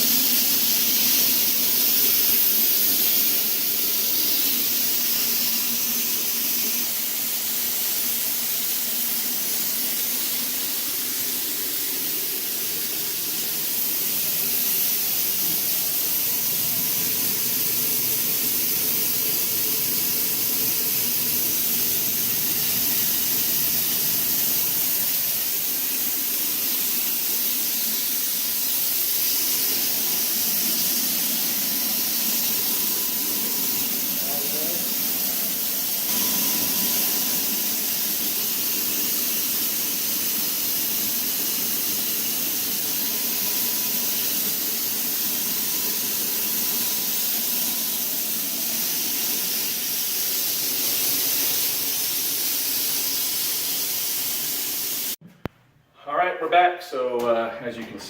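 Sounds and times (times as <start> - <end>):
fogger hissing: 0.0 - 55.2.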